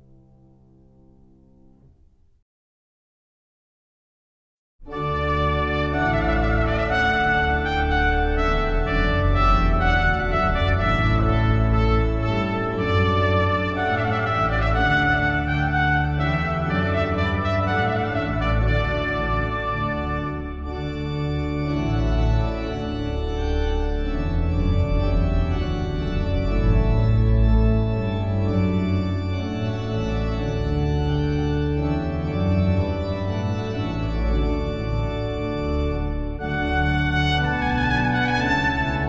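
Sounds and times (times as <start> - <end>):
organ music: 4.8 - 39.0.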